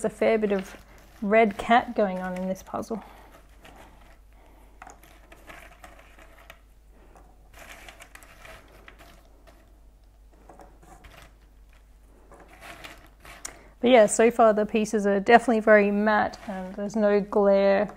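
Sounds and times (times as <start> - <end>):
jigsaw puzzle pieces rustling: 0.0 - 14.6, 15.4 - 17.9.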